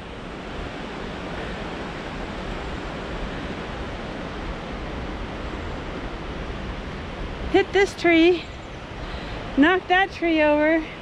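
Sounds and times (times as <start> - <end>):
rush of falling water: 0.0 - 11.0
wind rumble on microphone: 0.0 - 11.0.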